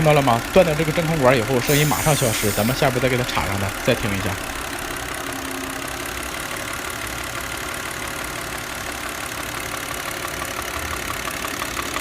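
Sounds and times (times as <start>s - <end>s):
car engine idling: 0.0s - 12.0s
fast even engine tapping: 0.0s - 12.0s.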